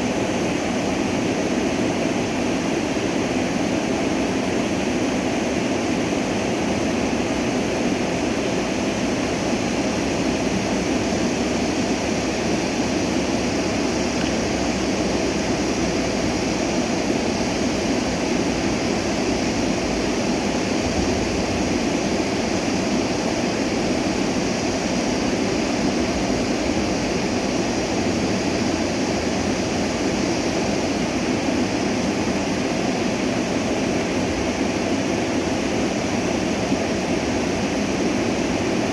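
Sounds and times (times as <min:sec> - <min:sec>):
stream water rushing: 0:00.1 - 0:20.8, 0:21.4 - 0:38.9.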